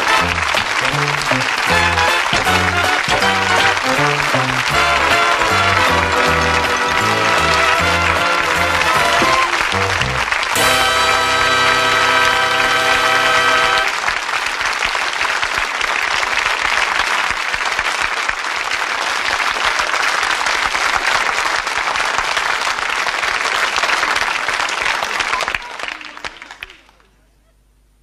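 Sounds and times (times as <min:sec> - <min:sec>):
audience applauding: 0:00.0 - 0:27.2.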